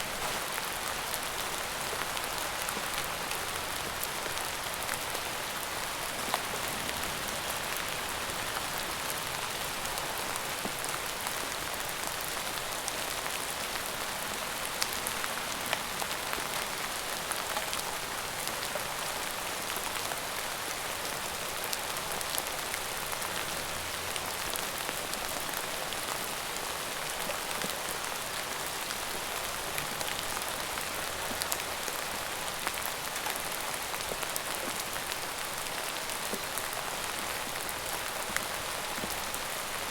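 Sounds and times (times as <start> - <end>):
steady rain hissing: 0.0 - 39.9
raindrops ticking on a surface: 0.1 - 39.9.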